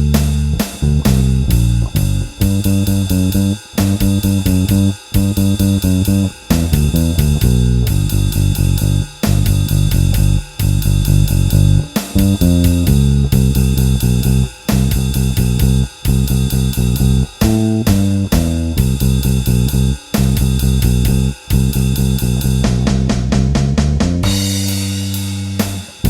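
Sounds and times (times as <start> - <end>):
drum kit with cymbals: 0.0 - 26.0
electric bass line: 0.0 - 26.0.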